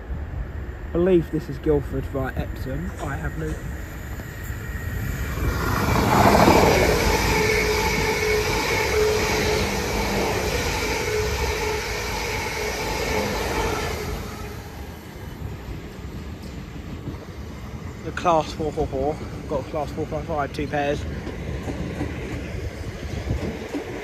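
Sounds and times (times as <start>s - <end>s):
train wheels rushing on rail: 0.0s - 24.0s
train whine: 0.0s - 24.0s.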